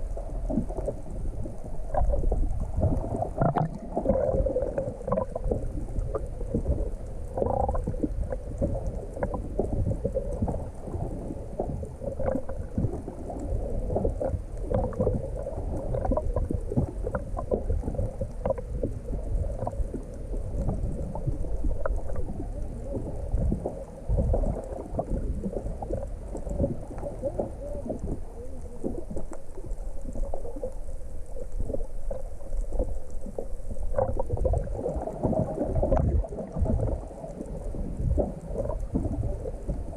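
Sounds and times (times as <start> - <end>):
muffled underwater water sloshing: 0.0 - 39.9.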